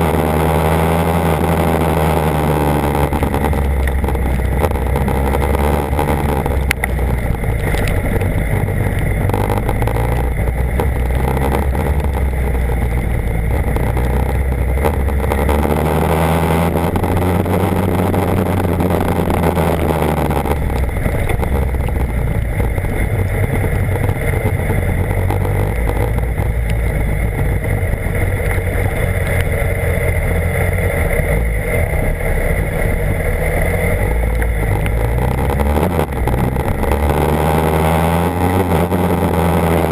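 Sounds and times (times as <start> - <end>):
motorcycle engine running: 0.0 - 39.9
steady rush of noise: 0.0 - 39.9.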